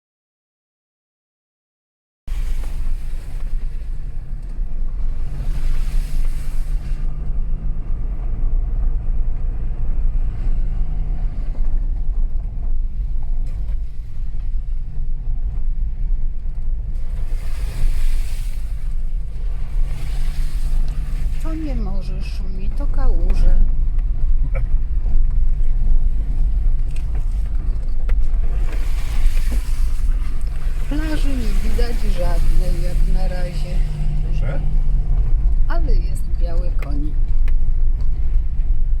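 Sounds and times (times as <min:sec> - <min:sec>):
vehicle engine running: 0:02.3 - 0:39.0
wind rumble on microphone: 0:02.3 - 0:39.0.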